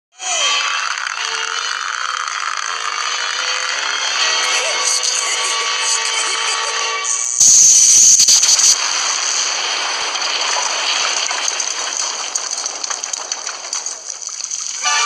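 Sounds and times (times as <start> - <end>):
crackling noise: 0.2 - 15.0.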